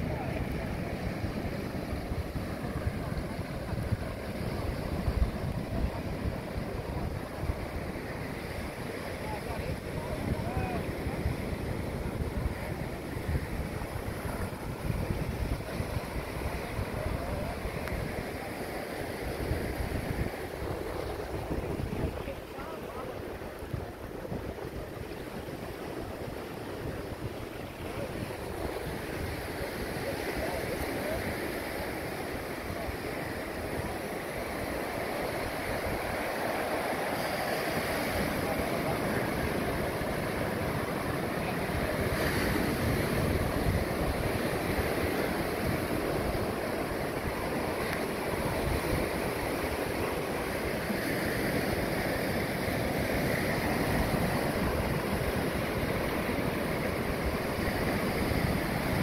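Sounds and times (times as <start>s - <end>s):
river water rushing: 0.0s - 59.0s
waves breaking: 0.0s - 59.0s
wind buffeting microphone: 0.0s - 59.0s.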